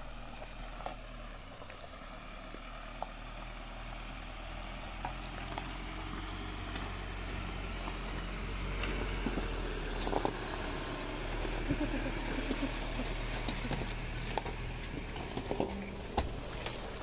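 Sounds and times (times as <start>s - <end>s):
diesel engine running slowly: 0.0s - 17.0s
stones clicking under tyres: 0.0s - 17.0s.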